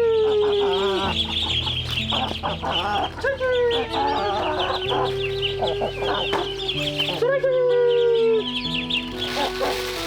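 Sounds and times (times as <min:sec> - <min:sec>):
chicks peeping: 0:00.0 - 0:10.0
long drawn-out chicken calls: 0:00.0 - 0:10.0
chickens clucking: 0:00.3 - 0:10.0.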